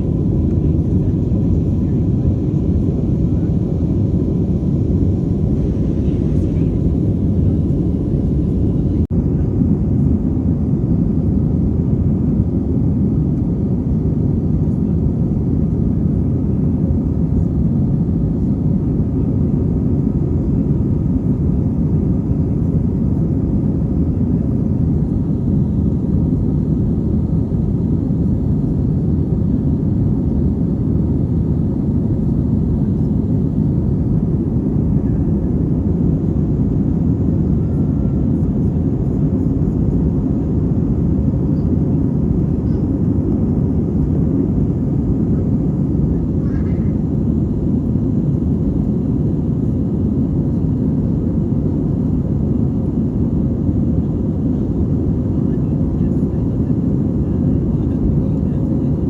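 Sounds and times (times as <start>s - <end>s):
airliner cabin noise: 0.0s - 59.0s.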